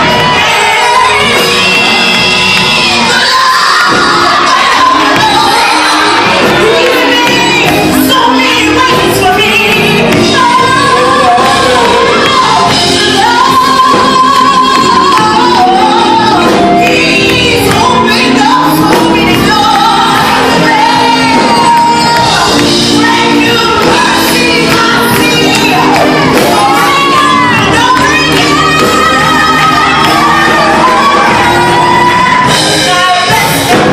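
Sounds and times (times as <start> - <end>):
people singing with instruments: 0.0 - 33.9.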